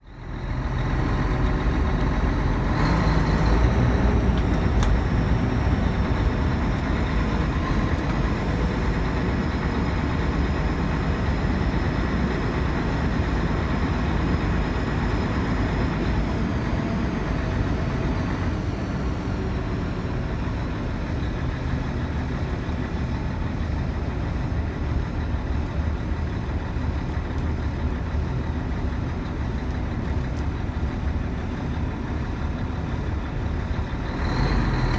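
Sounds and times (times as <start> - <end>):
diesel engine rumbling: 0.0 - 34.9.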